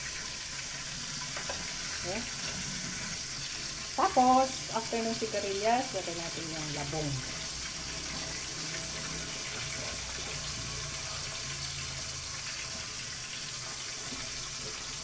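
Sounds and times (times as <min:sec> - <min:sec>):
pot of broth boiling: 0:00.0 - 0:15.0.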